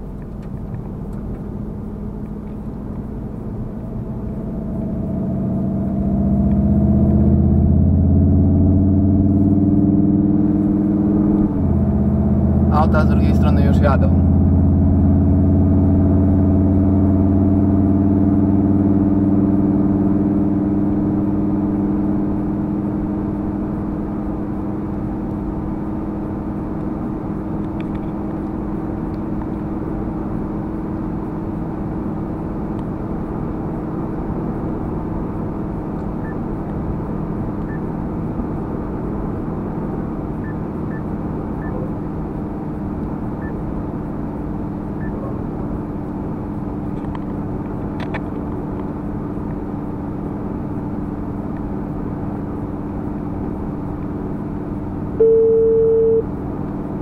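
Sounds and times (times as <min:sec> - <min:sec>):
tyre and road noise: 0:00.0 - 0:17.1, 0:21.8 - 0:57.0
low engine hum: 0:00.0 - 0:57.0.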